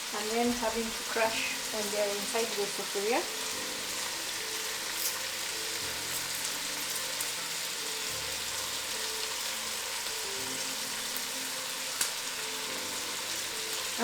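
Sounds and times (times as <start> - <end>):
stew sizzling in a pot: 0.0 - 14.0.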